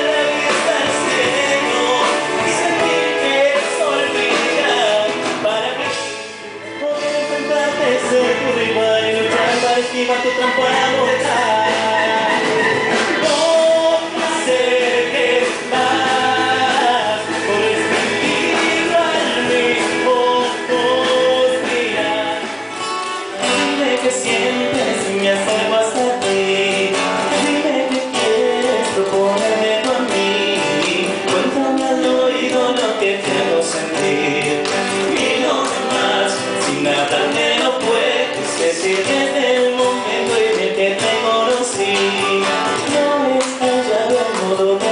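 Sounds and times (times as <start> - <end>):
live band music: 0.0 - 44.9.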